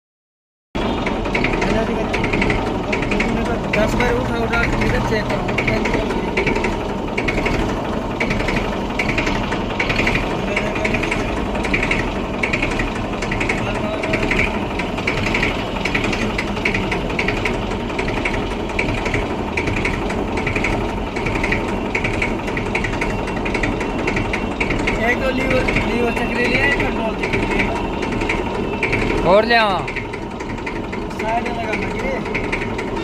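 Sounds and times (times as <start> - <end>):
mechanical clicking rattle: 0.8 - 33.0
tractor engine hum: 0.8 - 33.0.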